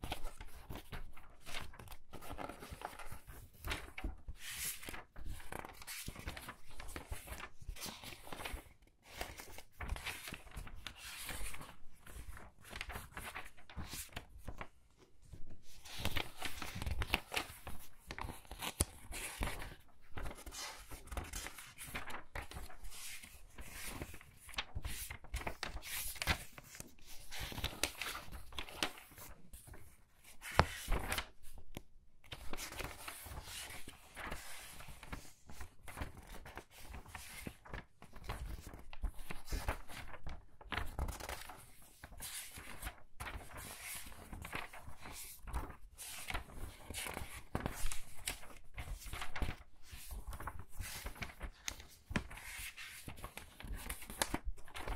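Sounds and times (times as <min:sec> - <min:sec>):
book pages turning: 0:00.0 - 0:54.9.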